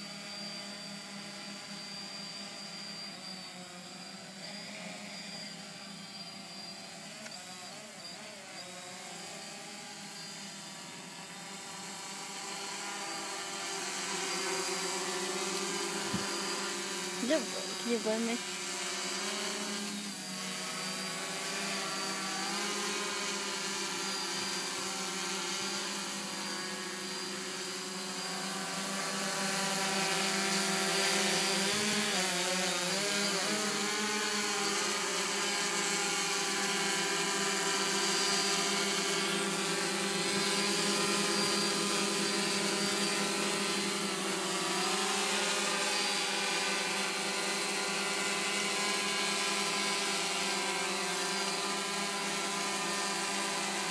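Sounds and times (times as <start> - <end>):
drone propellers buzzing: 0.0 - 53.9.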